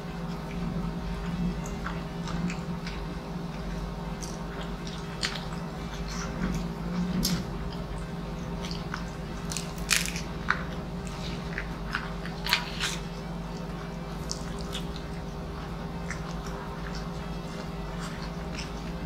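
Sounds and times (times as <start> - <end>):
low steady hum: 0.0 - 19.0
crunchy chewing: 1.6 - 19.0.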